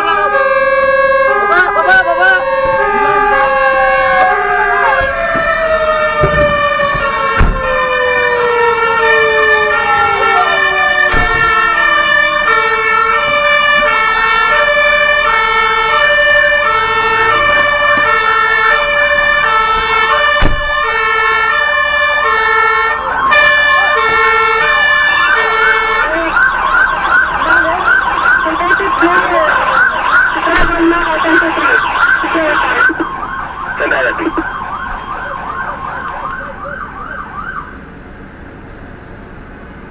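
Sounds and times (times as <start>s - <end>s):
fast yelp siren: 0.0s - 37.8s
hi-lo siren: 0.0s - 37.9s
siren winding down: 0.0s - 37.9s.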